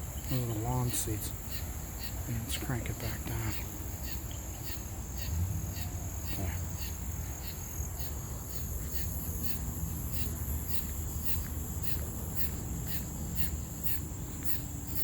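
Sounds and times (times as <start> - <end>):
insects chirping: 0.0 - 15.0
high-pitched insect drone: 0.2 - 15.0.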